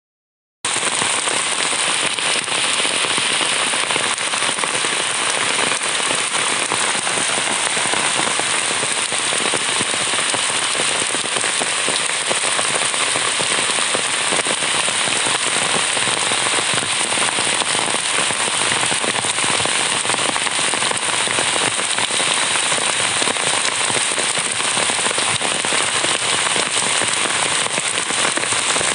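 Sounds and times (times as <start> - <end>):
heavy rain falling: 0.7 - 28.9.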